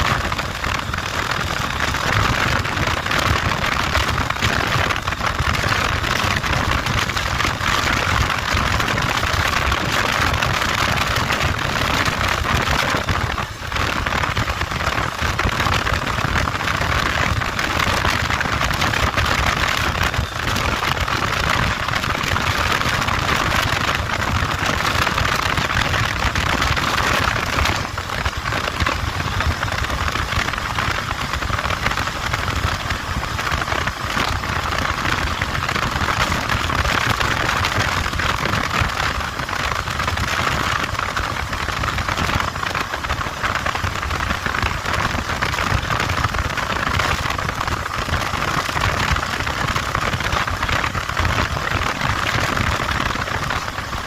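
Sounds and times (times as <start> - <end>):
motorcycle engine running: 0.0 - 49.8.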